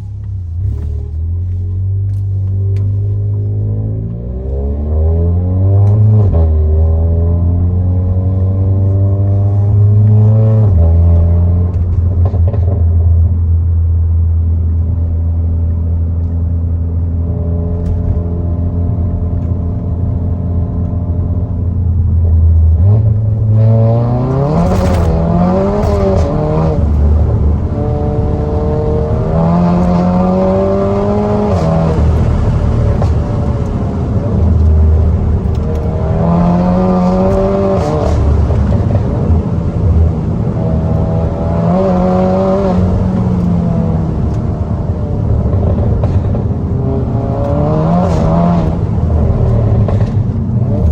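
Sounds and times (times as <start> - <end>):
car engine droning and revving: 0.0 - 50.9.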